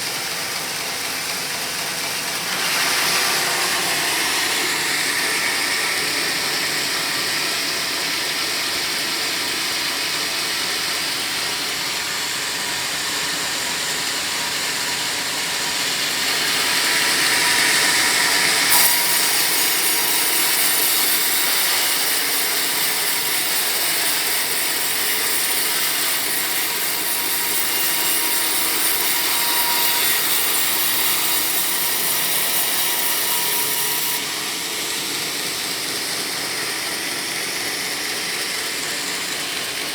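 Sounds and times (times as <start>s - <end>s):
sawmill blade cutting log: 0.0s - 39.9s.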